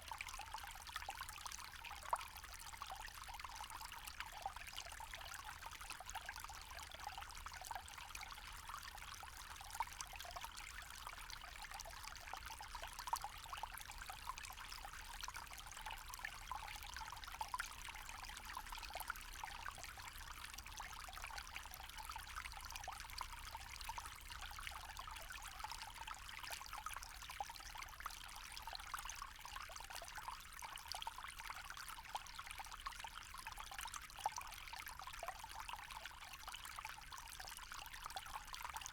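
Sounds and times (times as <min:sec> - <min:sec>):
stream trickling over stones: 0:00.0 - 0:38.9.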